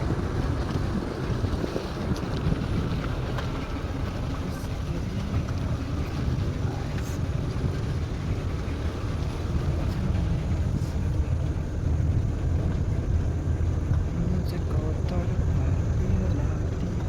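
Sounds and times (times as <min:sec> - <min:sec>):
vehicle engine and road rumble: 0:00.0 - 0:17.0
wind buffeting microphone: 0:00.0 - 0:17.0.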